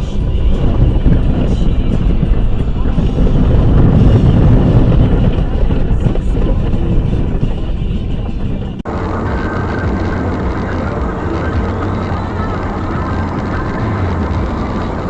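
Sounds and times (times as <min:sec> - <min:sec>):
car engine and road noise: 0:00.0 - 0:15.0
low hum: 0:00.0 - 0:15.0.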